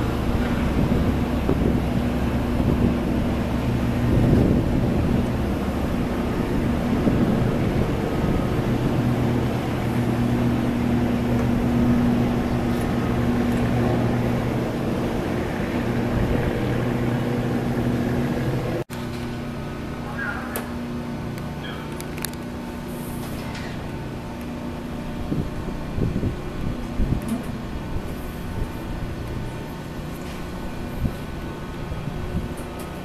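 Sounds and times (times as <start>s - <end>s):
low machinery hum: 0.0s - 33.0s
wind: 0.0s - 33.0s.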